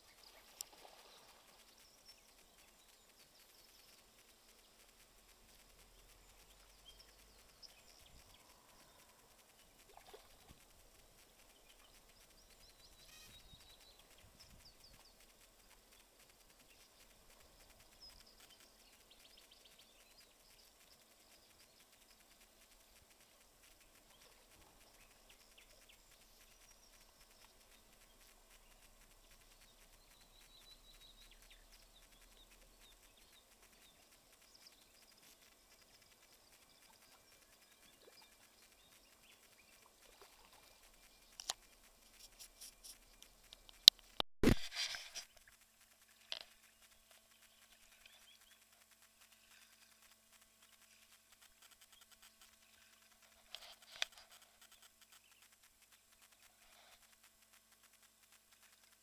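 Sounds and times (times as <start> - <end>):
faint bird chirps: 0.0 - 57.1.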